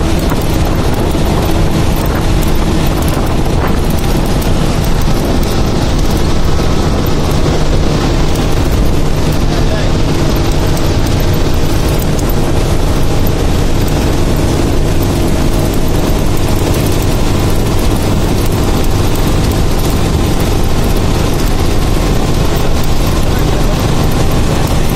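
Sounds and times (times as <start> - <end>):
bus engine and road drone: 0.0 - 24.9.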